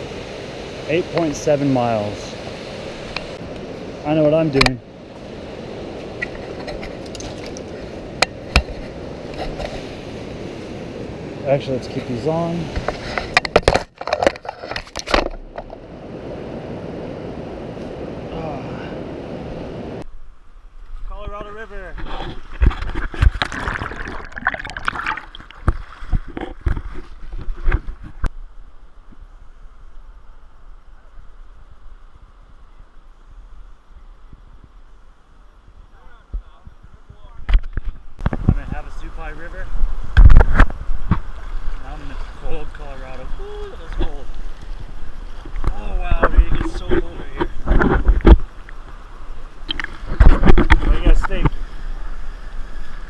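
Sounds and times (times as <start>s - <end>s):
steady wash of water: 0.0s - 13.6s, 21.6s - 37.2s, 37.8s - 53.0s
river water splashing: 0.0s - 20.0s, 21.8s - 36.3s, 37.8s - 53.0s.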